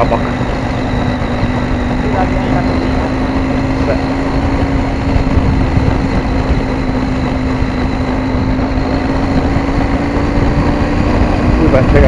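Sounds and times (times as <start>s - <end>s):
low rumble: 0.0s - 12.0s
motorcycle engine running: 0.0s - 12.0s.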